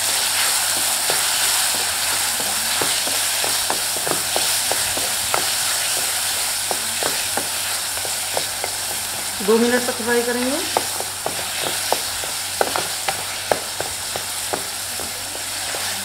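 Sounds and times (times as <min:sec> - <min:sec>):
vegetables sizzling in oil: 0:00.0 - 0:16.0
wooden spatula scraping pan: 0:00.0 - 0:16.0.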